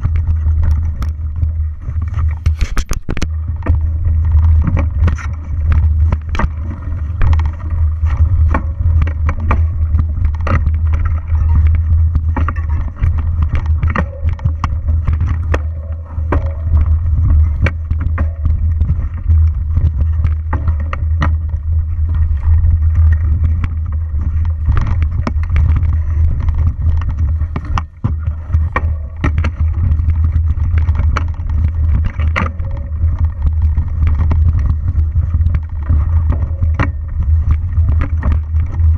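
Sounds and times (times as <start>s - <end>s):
bike knocking and rattling: 0.0s - 38.9s
wind buffeting microphone: 0.0s - 38.9s.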